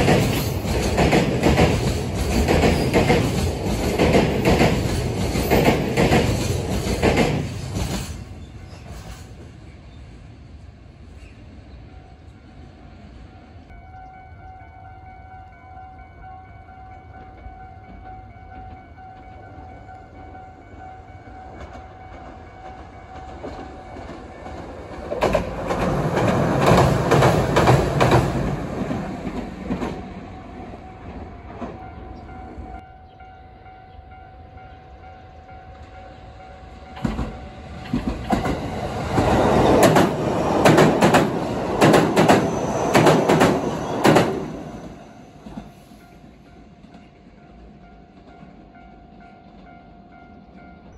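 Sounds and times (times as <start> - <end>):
trains passing: 0.0 - 50.9.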